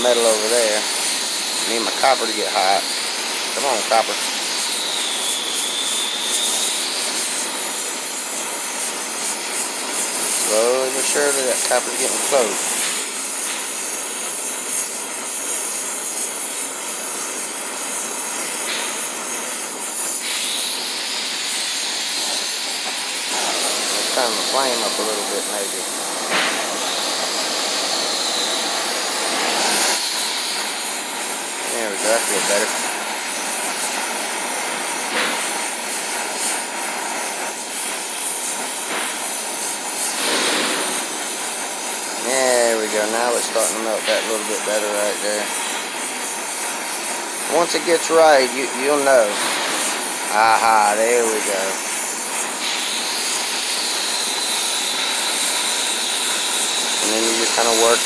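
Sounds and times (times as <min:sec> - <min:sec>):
torch flame hissing: 0:00.0 - 0:58.0.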